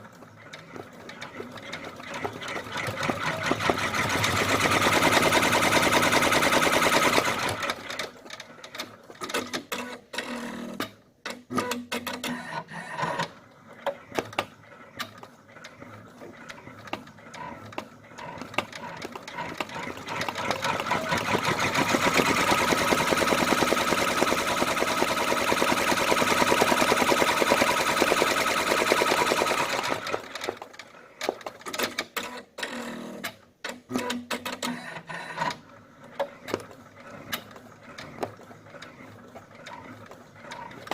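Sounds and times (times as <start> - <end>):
embroidery machine stitching: 0.3 - 40.9.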